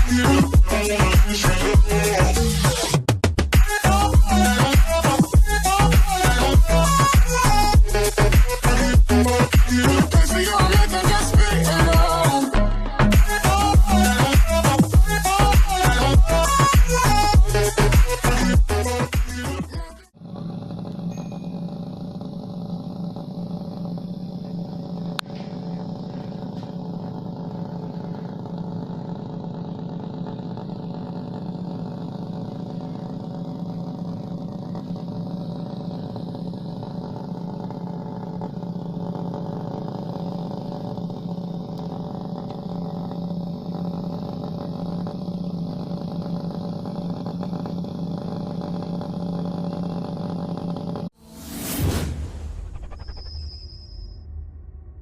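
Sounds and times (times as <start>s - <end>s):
small motor humming: 0.0s - 3.0s, 3.6s - 51.9s.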